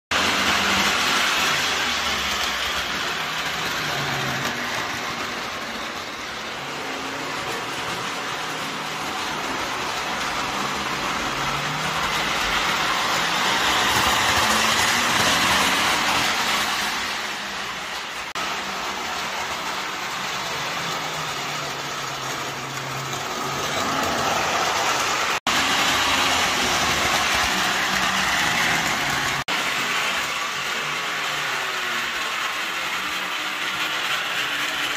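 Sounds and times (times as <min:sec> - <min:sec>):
model trains rattling on track: 0:00.2 - 0:34.9.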